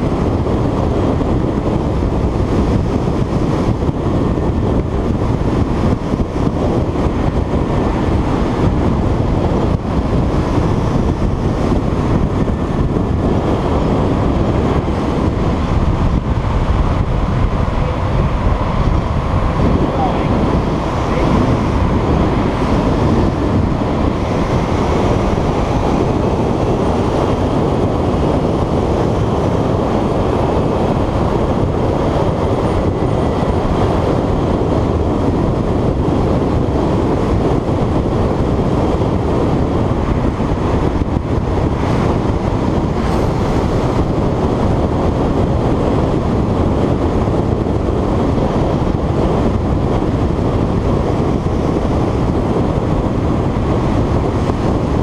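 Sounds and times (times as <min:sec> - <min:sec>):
motorcycle engine rumbling in tunnel: 0:00.0 - 0:55.0
wind noise: 0:00.0 - 0:55.0.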